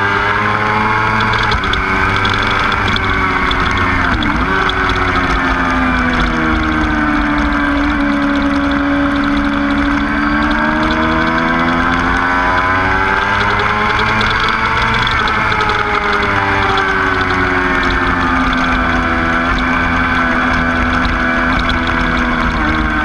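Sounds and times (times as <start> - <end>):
motorcycle engine running hard: 0.0 - 23.0
wind noise: 0.0 - 23.0.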